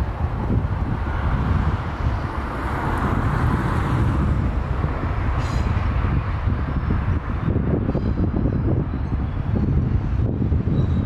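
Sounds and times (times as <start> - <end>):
train rumble: 0.0 - 11.0
wind buffeting microphone: 0.0 - 11.0.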